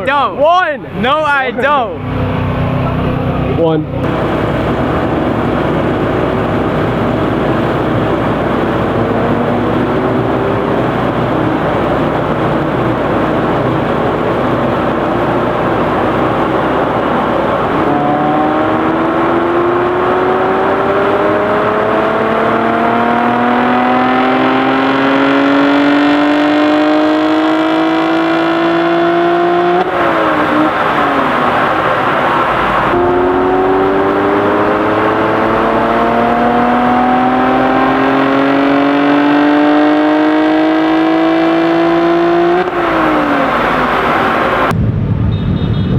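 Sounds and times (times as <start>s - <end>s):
car engine at full throttle: 0.0s - 45.9s.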